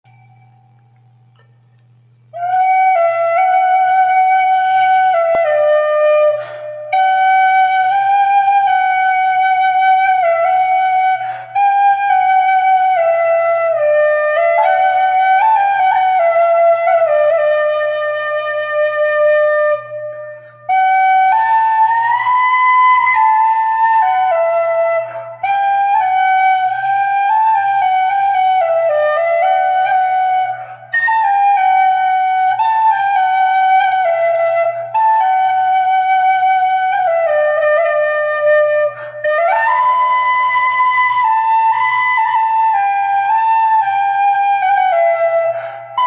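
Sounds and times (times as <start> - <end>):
flute playing slow melody: 0.1 - 0.9, 2.1 - 46.0
faint low hum: 0.1 - 46.0.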